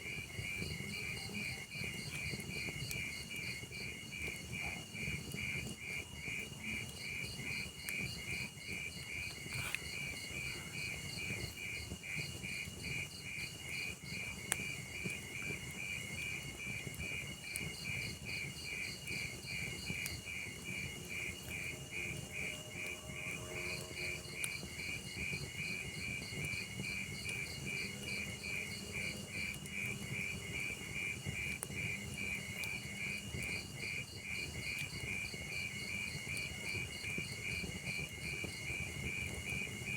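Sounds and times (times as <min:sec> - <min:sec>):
crickets chirping: 0:00.0 - 0:39.9
log fire crackling and popping: 0:00.0 - 0:39.9.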